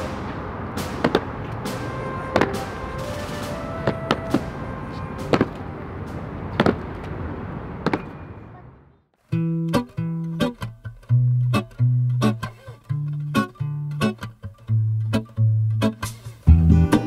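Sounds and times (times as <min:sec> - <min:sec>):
acoustic guitar music: 0:00.0 - 0:06.5, 0:09.2 - 0:17.0
background noise: 0:00.0 - 0:17.0.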